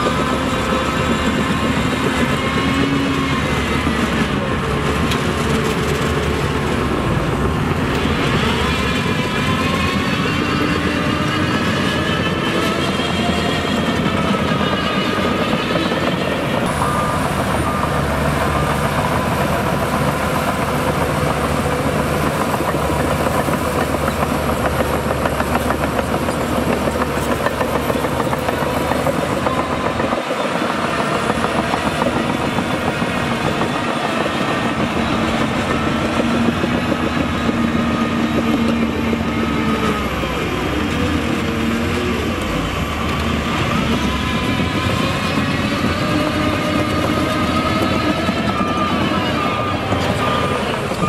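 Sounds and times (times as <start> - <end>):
diesel engine under load: 0.0 - 51.0
steel tracks clattering and squealing: 0.0 - 51.0.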